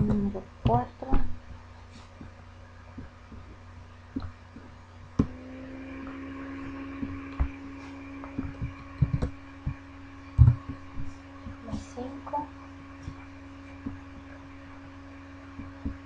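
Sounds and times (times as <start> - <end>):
low electrical hum: 0.0 - 16.0
steady humming tone: 0.0 - 16.0.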